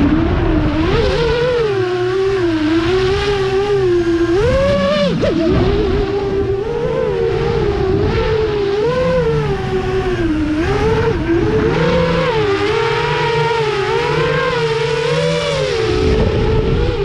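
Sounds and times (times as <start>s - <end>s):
quadcopter motors whining: 0.0s - 17.0s
rushing wind noise: 0.0s - 17.0s.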